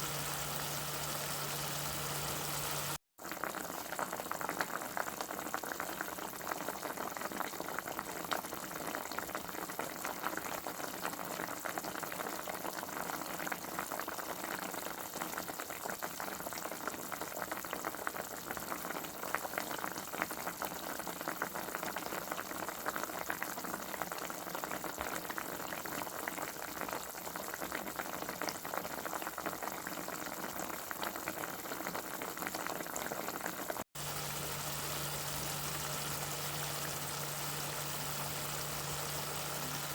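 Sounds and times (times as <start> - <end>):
food bubbling in a pot: 0.0 - 39.9.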